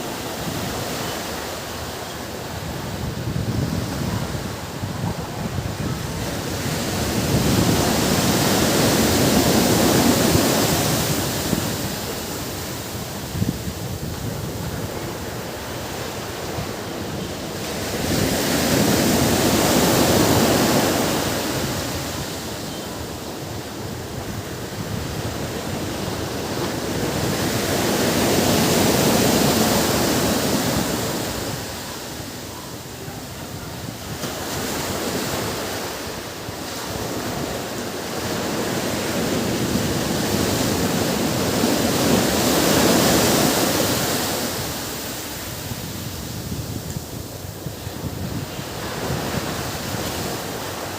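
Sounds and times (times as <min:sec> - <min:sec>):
waves breaking on beach: 0:00.0 - 0:50.9.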